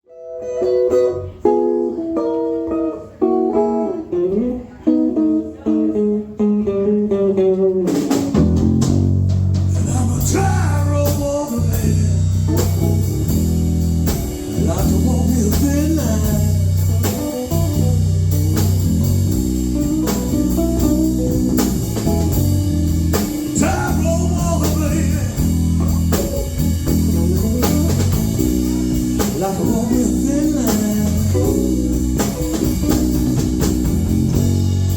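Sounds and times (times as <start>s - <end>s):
solo guitar: 0.0s - 34.9s
blues rock band playing live: 0.1s - 34.9s.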